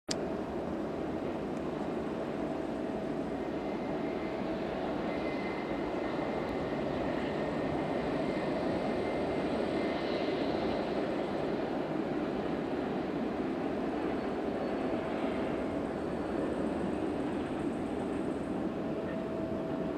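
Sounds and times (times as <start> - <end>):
jet airliner rumble with faint whine: 0.1 - 19.9.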